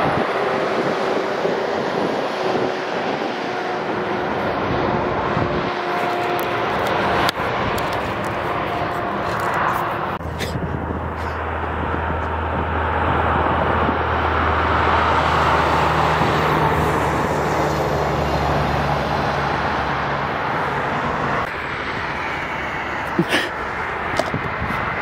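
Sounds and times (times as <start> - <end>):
traffic tyre noise: 0.0 - 25.0
truck diesel engine drone: 0.0 - 25.0.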